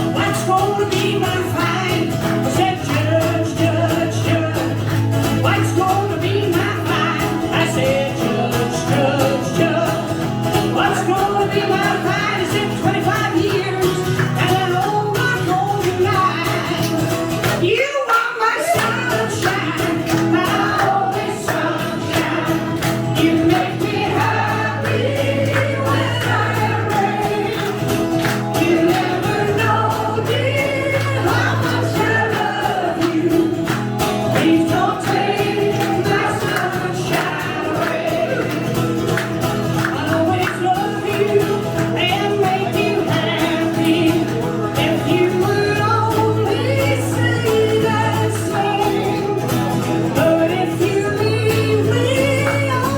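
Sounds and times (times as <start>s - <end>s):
strummed accompaniment: 0.0s - 17.8s, 18.6s - 52.9s
person singing: 0.0s - 38.8s, 39.8s - 52.9s.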